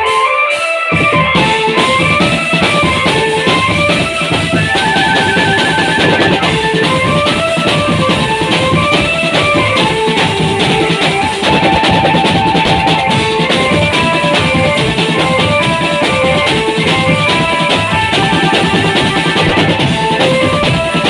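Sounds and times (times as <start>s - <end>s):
marching band drumming: 0.0s - 21.0s
quick stepping melody: 0.0s - 21.0s.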